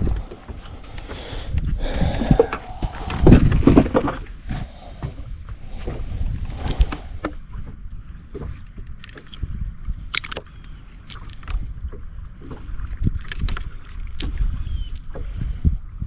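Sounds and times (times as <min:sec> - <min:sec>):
knocks and rattles in a boat: 0:00.0 - 0:16.0
wind rumble on microphone: 0:00.0 - 0:16.0.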